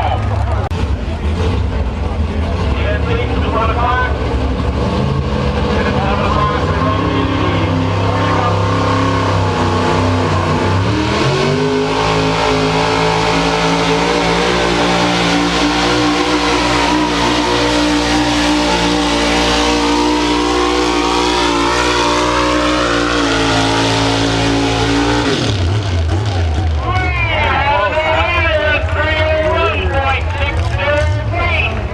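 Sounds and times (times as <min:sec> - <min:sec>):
truck engine at full throttle: 0:00.0 - 0:31.9.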